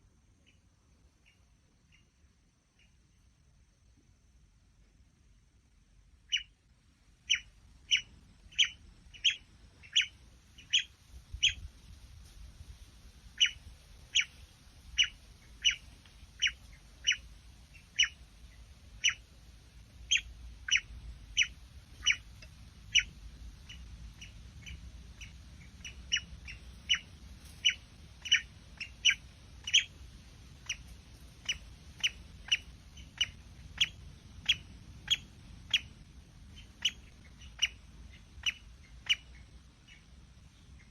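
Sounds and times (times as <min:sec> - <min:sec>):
faint low rumble: 0:00.0 - 0:40.9.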